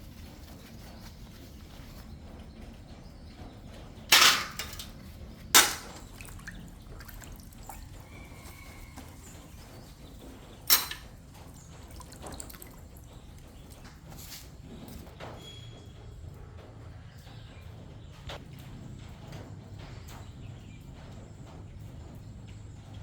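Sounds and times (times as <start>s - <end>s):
low steady background noise: 0.0s - 23.0s.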